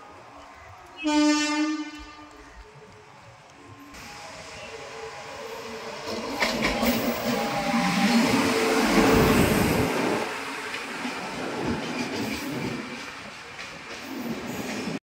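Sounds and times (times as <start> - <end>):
electric locomotive humming: 0.0 - 15.0
train coaches rumbling: 0.0 - 15.0.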